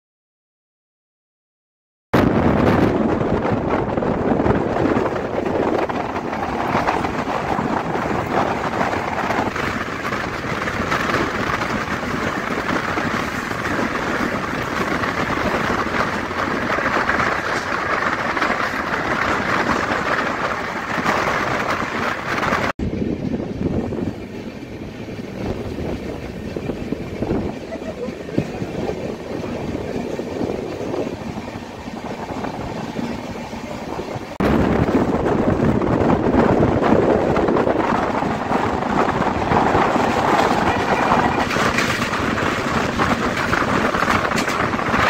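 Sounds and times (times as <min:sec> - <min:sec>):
rush of wind: 0:02.1 - 0:45.0
train wheels on rails: 0:02.6 - 0:45.0.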